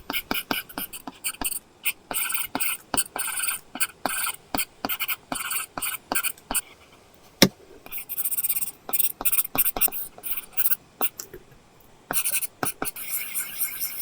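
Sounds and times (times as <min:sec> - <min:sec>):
stylus scratching on screen: 0:00.0 - 0:07.0, 0:07.9 - 0:11.2, 0:12.1 - 0:14.0.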